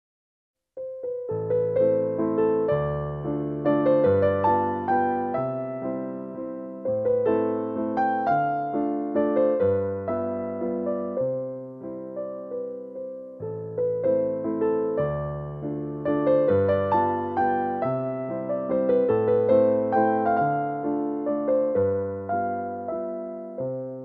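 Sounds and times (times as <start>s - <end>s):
piano music: 0.8s - 24.0s.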